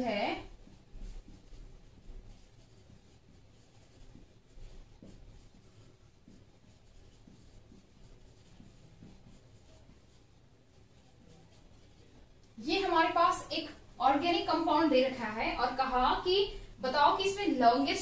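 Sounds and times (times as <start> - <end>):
marker squeaking on whiteboard: 0.6 - 15.1.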